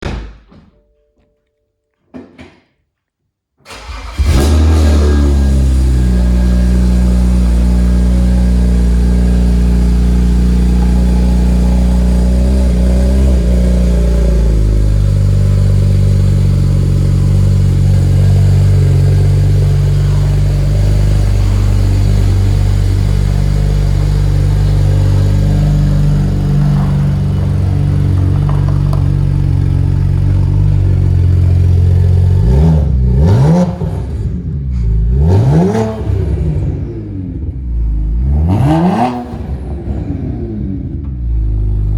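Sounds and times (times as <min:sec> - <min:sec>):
car engine idling: 0:03.7 - 0:38.7, 0:39.3 - 0:41.9.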